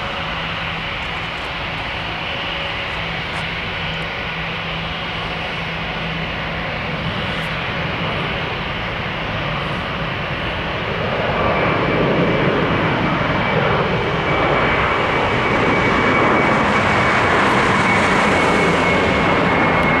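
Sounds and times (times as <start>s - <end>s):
high jet engine whine: 0.0s - 20.0s
jet engines roaring: 0.0s - 20.0s.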